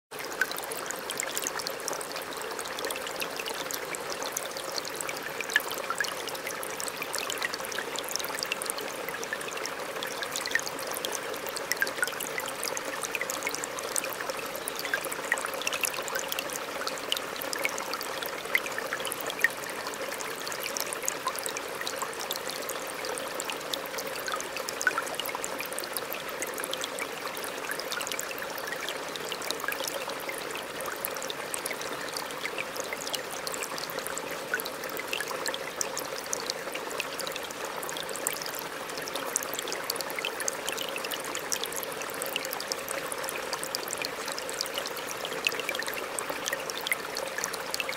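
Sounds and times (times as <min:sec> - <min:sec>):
water plinks and trickles: 0:00.1 - 0:47.9.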